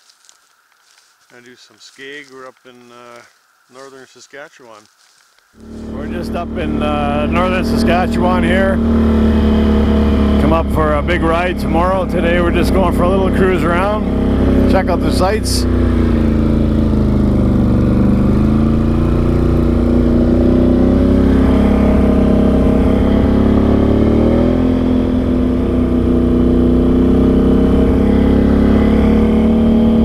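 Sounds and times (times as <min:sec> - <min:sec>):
atv engine revving: 0:05.6 - 0:30.0.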